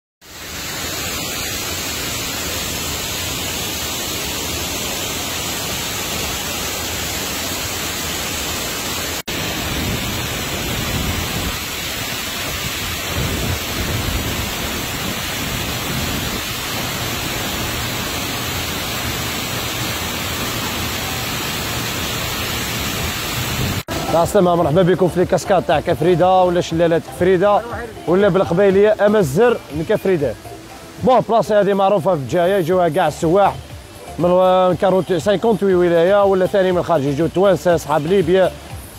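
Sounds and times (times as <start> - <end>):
waterfall rushing: 0.2 - 38.9.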